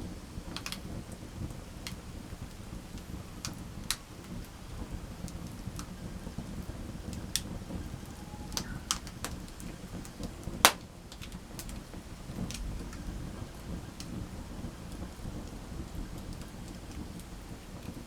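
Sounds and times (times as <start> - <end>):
campfire pops and snaps: 0.0 - 18.0
low rumble of burning fire: 0.0 - 18.0.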